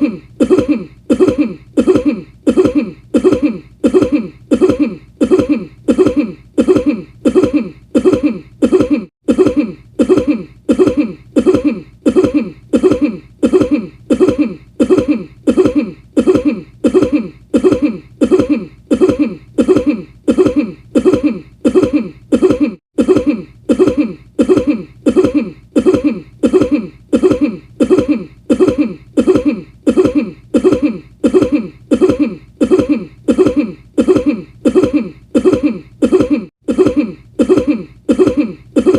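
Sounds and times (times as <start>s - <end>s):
person coughing: 0.0s - 38.9s.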